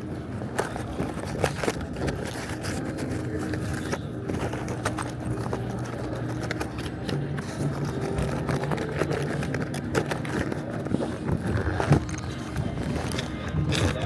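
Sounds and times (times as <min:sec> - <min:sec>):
room noise: 0:00.0 - 0:14.0
scattered clicks and scrapes: 0:00.0 - 0:14.0.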